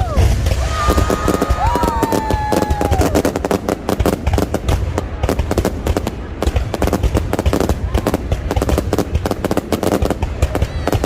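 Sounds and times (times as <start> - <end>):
fireworks cracking and banging: 0.0 - 11.0
low firework booms: 0.0 - 11.0.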